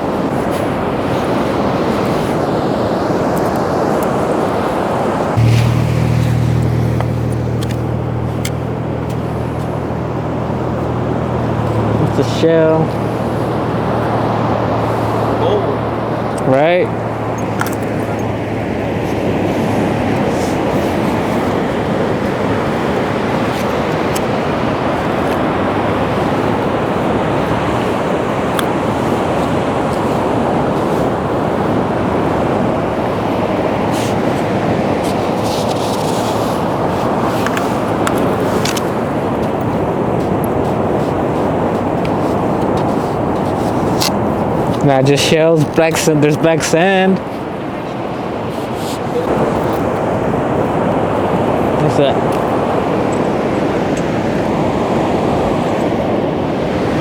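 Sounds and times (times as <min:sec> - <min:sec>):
surf on beach: 0:00.0 - 0:57.0
vehicle engine humming: 0:00.0 - 0:57.0
wind: 0:00.0 - 0:57.0.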